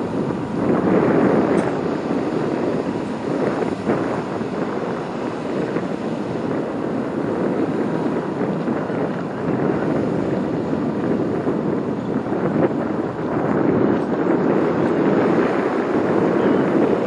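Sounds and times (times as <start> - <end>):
ferry engine and water wash: 0.0 - 17.0
wind buffeting microphone: 0.0 - 17.0.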